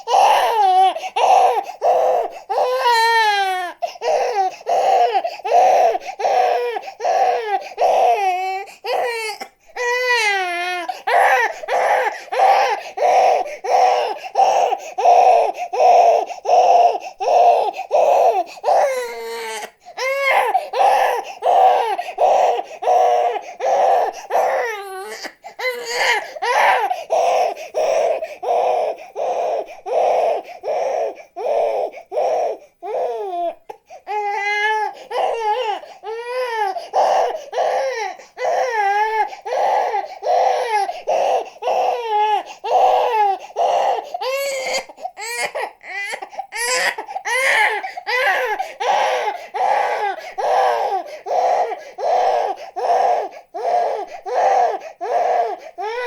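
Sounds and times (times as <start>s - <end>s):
infant crying: 0.0s - 56.0s.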